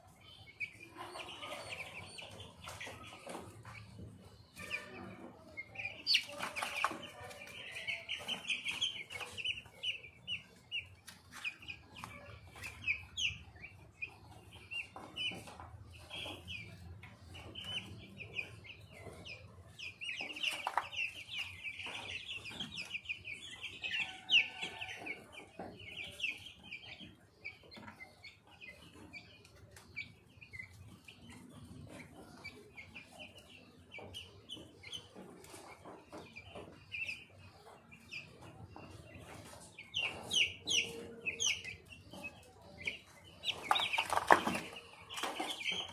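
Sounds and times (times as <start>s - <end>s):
baby chicks peeping: 0.0s - 45.9s.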